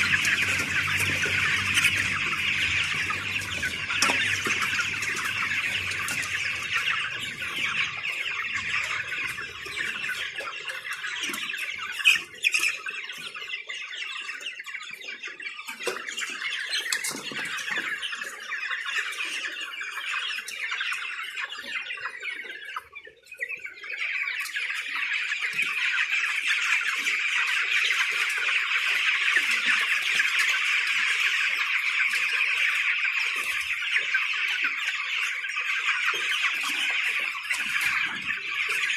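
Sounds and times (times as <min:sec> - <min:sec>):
chicks peeping and chirping: 0:00.0 - 0:38.9.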